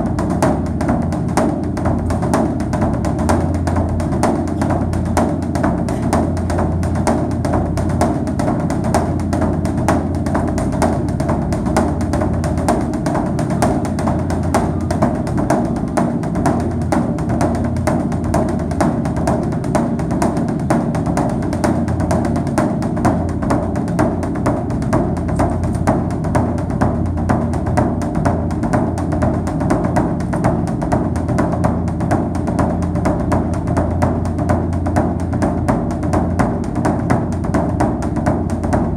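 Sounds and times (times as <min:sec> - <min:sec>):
music with wood-block beat: 0:00.0 - 0:38.9
sustained low music tones: 0:00.0 - 0:38.9.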